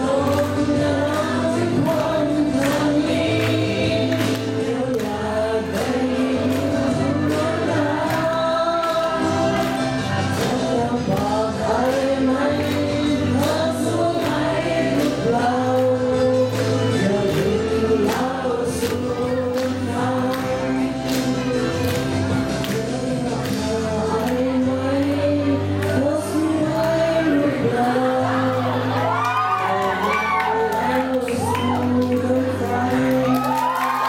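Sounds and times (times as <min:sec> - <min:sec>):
backing music with steady beat: 0:00.0 - 0:34.0
person singing into a microphone: 0:00.0 - 0:34.0.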